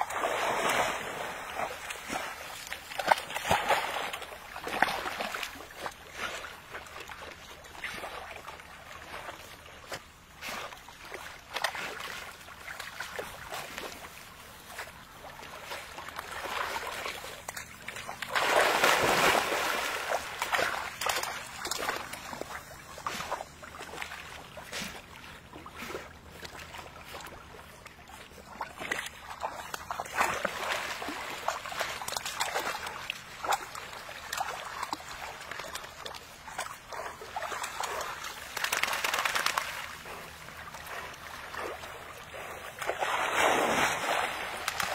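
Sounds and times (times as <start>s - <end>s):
dogs splashing in pond water: 0.0s - 44.9s.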